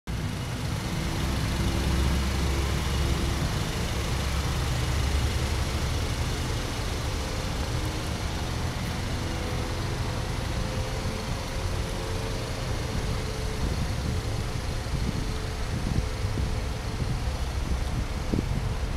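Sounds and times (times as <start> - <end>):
car engine idling: 0.1 - 18.9.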